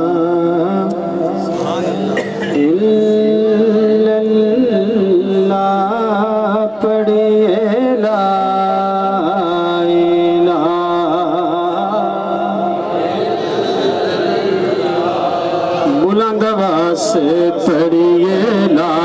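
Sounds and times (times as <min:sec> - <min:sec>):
man singing devotional recitation: 0:00.0 - 0:19.0.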